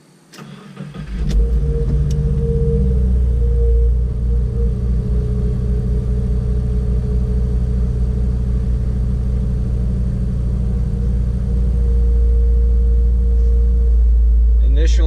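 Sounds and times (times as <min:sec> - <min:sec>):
car engine idling: 0:00.4 - 0:15.0.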